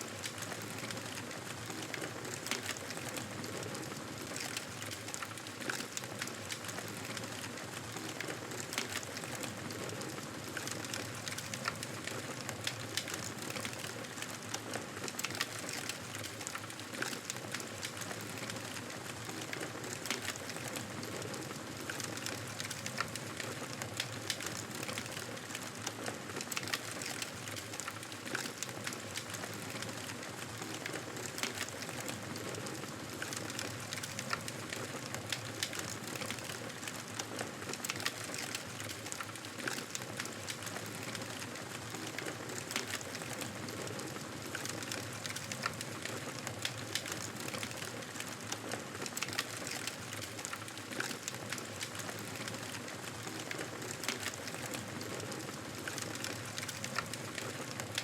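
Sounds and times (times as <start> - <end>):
fire crackles and pops: 0.0 - 58.0.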